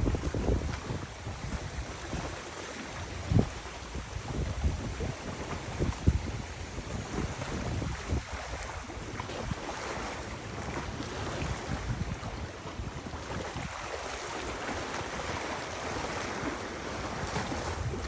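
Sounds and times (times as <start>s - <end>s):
river water rushing: 0.0s - 18.0s
wind gusting over microphone: 0.0s - 18.0s.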